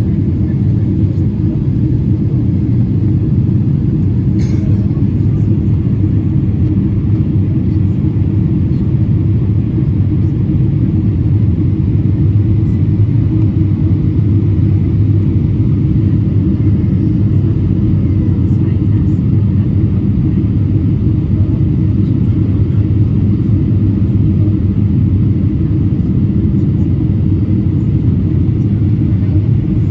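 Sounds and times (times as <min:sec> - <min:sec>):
airplane cabin engine rumble: 0:00.0 - 0:29.9.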